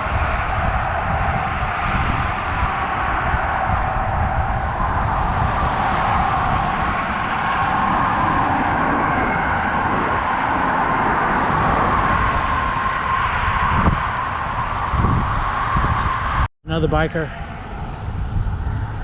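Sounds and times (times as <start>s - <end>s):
highway traffic: 0.0s - 19.0s
wind rumbling on microphone: 0.0s - 19.0s.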